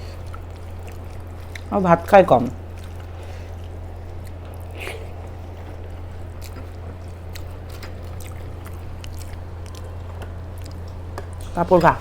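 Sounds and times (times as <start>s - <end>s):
soft chewing: 0.0s - 11.6s
steady low hum: 0.0s - 12.0s.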